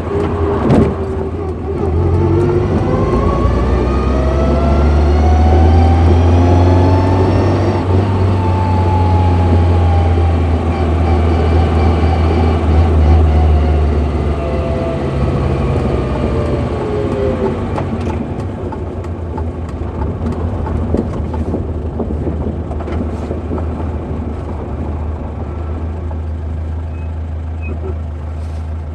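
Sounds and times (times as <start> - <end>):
car gearbox whining: 0.0 - 25.5
low engine drone: 0.0 - 28.9.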